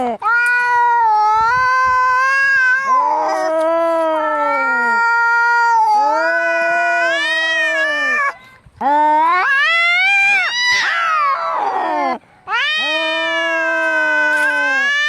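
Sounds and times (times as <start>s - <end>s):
cats yowling: 0.2s - 8.4s, 9.1s - 15.0s.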